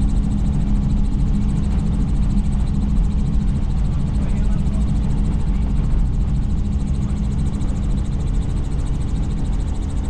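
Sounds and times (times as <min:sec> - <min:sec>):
helicopter rotor and engine: 0:00.0 - 0:10.0.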